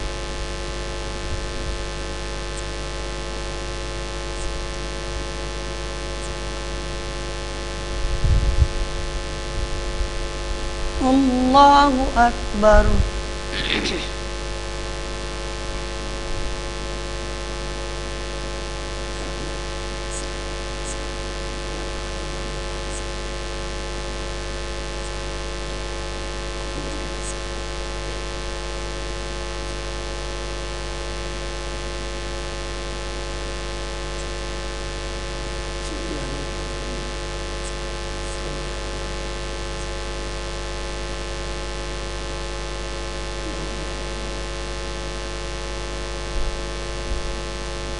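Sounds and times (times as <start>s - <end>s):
electrical mains hum and hiss: 0.0s - 47.9s.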